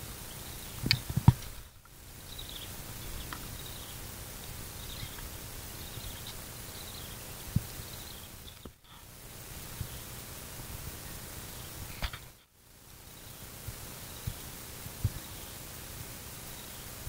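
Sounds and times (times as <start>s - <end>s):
faint high chirping: 0.0s - 10.2s, 11.0s - 12.2s, 13.0s - 17.0s
steady hiss: 0.0s - 17.0s.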